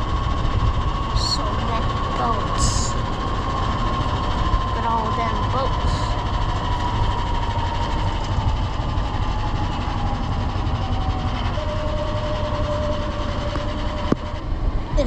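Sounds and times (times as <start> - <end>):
golf cart motor whining: 0.0 - 14.9
steady low rumble: 0.0 - 15.0.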